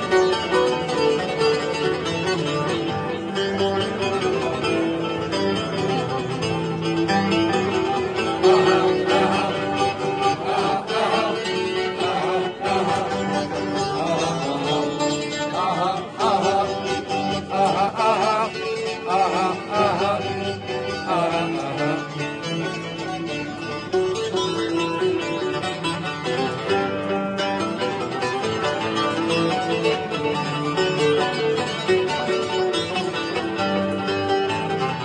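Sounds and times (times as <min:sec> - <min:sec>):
plucked string instruments: 0:00.0 - 0:35.0.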